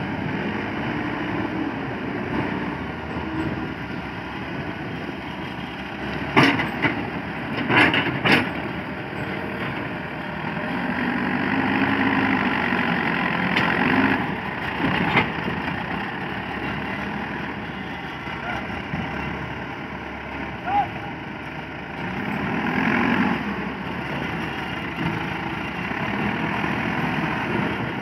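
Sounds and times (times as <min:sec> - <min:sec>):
diesel backhoe engine running: 0:00.0 - 0:28.0.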